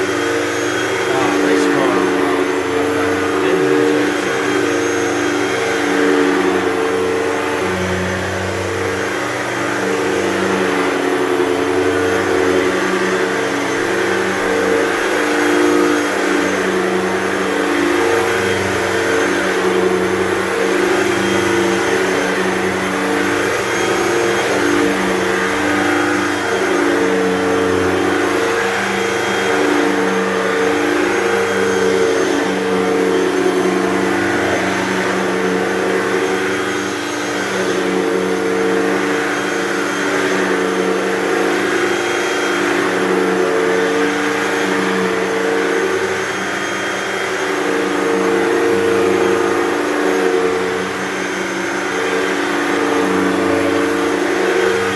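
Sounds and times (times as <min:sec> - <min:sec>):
upright vacuum cleaner running: 0:00.0 - 0:54.9.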